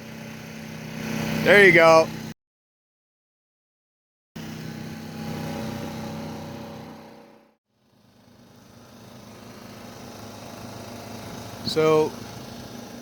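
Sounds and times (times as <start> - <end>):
outboard motor running: 0.0 - 2.3, 4.4 - 13.0.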